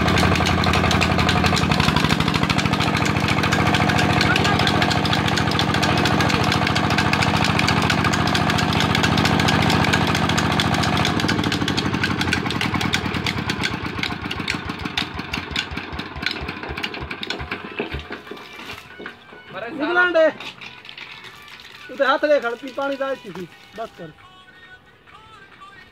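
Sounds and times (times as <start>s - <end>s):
diesel pump engine running: 0.0s - 24.2s.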